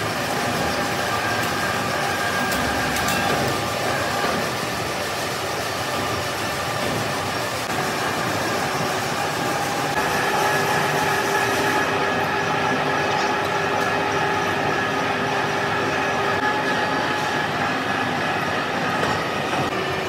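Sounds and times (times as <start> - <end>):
metalworking machine running: 0.0 - 20.0.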